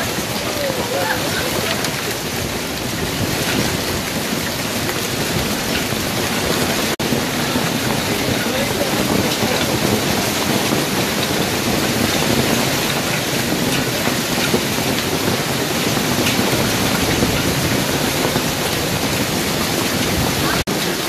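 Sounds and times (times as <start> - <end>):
heavy rain and hail on pavement: 0.0 - 21.0.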